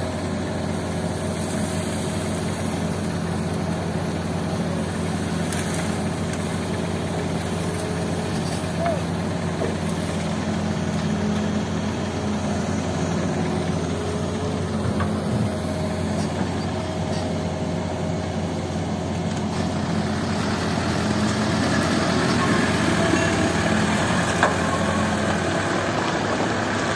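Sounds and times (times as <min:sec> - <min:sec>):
dump truck idling: 0:00.0 - 0:26.9
excavator loading gravel: 0:00.0 - 0:26.9.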